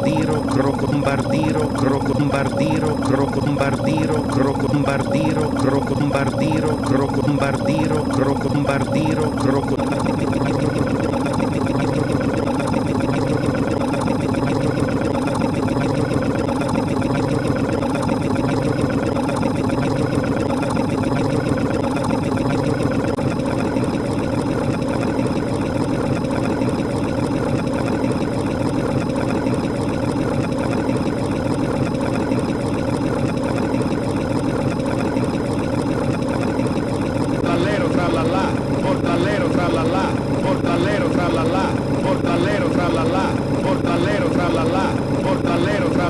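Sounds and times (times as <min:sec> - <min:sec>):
engine-like drone: 0:00.0 - 0:46.0.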